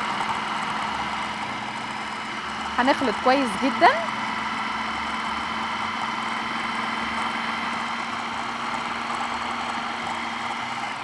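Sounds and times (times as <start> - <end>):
food processor motor running: 0.0 - 11.0.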